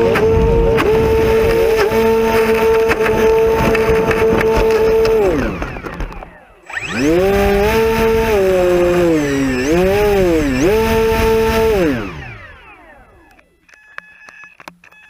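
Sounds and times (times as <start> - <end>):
model plane motor and propeller: 0.0 - 15.0.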